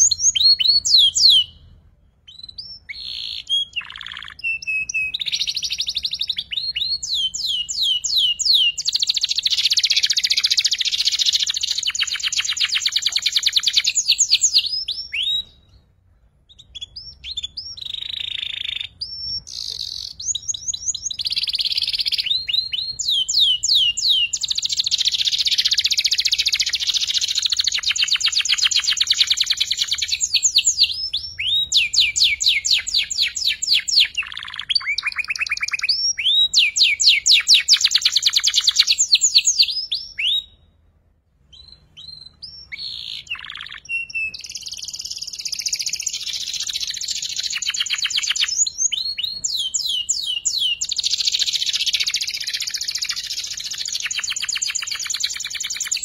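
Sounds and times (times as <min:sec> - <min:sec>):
canary singing trills: 0:00.0 - 0:40.7, 0:41.4 - 0:56.0.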